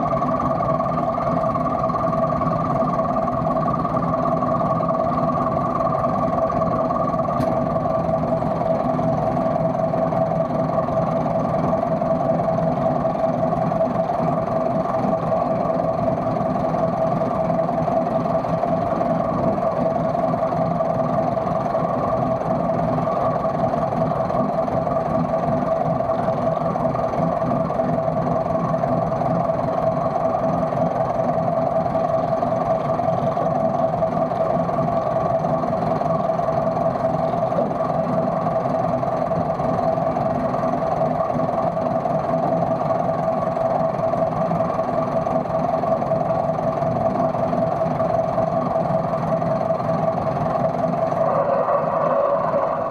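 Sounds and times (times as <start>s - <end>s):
engine idling with whine: 0.0s - 52.9s.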